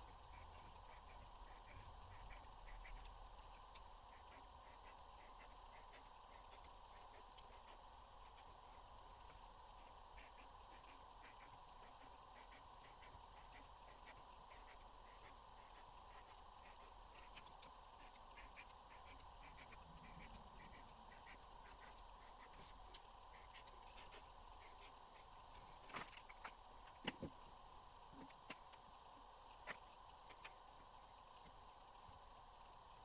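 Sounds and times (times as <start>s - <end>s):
marker scratching on paper: 0.1s - 26.6s.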